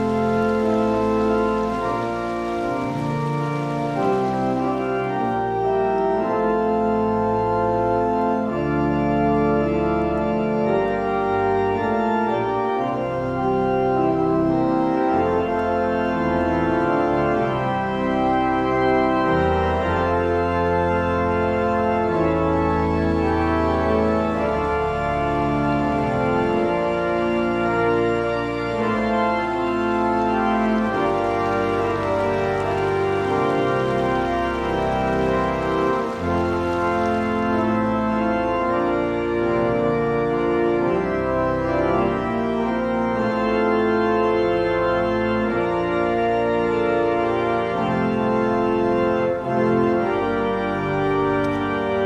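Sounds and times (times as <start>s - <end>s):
organ playing slow chords: 0.0s - 52.0s.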